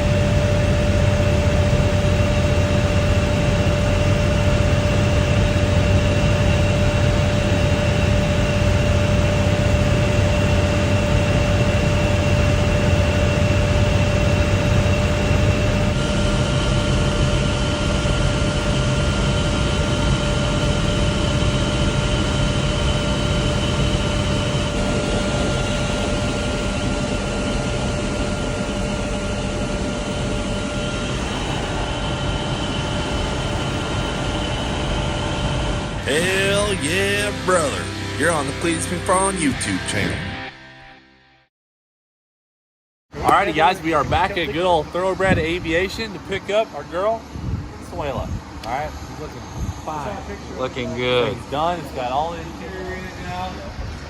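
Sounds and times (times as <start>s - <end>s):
helicopter turbine and rotor whine: 0.0s - 41.4s, 43.1s - 54.0s.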